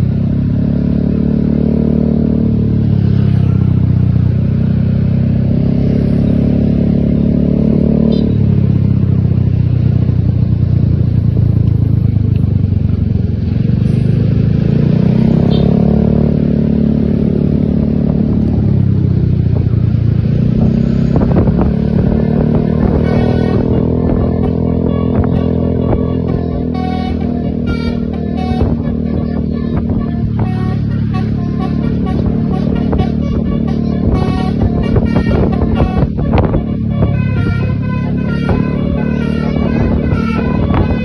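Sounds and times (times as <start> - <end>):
bus engine drone: 0.0 - 41.0.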